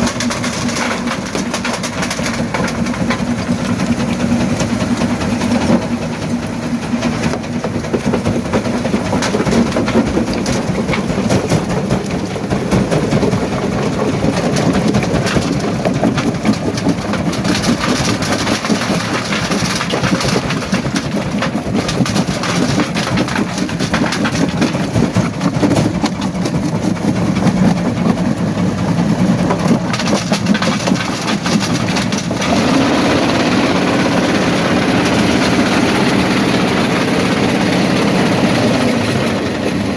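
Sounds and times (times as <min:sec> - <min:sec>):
rock cracking and clattering: 0:00.0 - 0:36.8
jaw crusher machine drone: 0:00.0 - 0:39.9.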